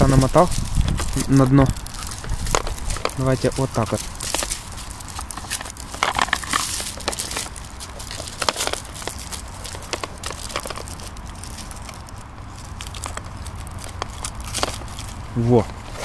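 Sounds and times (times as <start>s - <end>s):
rustling and light clicks: 0.0s - 16.0s.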